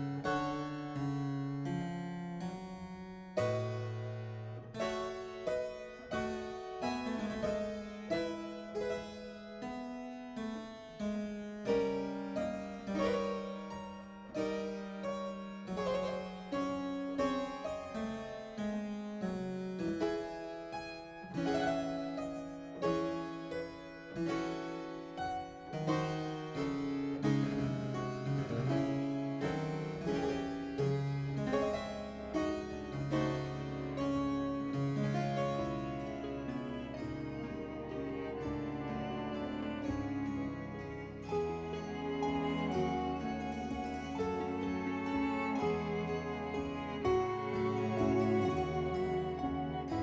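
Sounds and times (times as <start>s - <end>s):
harpsichord melody: 0.0s - 50.0s.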